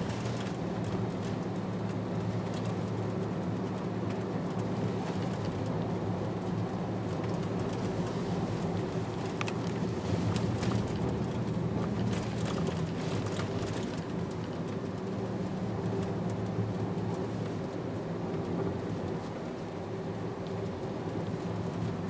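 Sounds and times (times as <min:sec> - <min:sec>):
car engine and tyre hum: 0:00.0 - 0:22.0.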